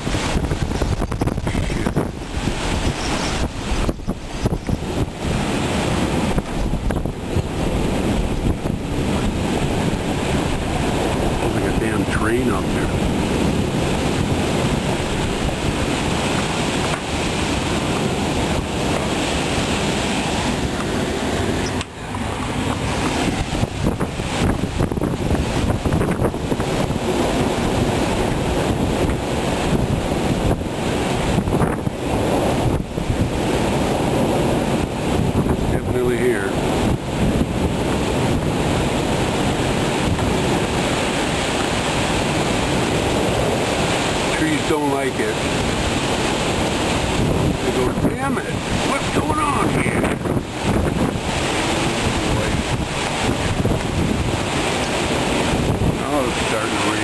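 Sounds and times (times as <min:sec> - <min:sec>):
strong wind rushing: 0:00.0 - 0:57.0
wind buffeting microphone: 0:00.0 - 0:57.0.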